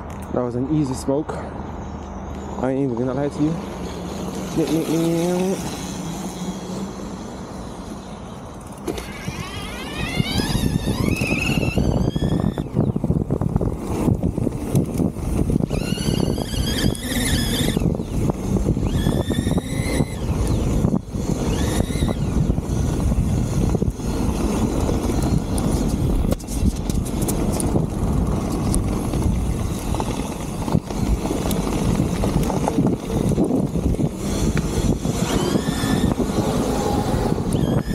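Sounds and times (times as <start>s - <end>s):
electric bike motor whining: 1.8s - 37.9s
wind rumble on microphone: 3.1s - 37.9s.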